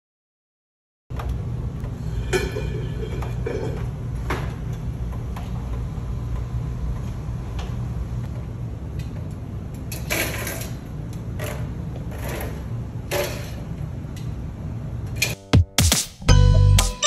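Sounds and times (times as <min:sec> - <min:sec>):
low mechanical hum: 0:01.1 - 0:15.5.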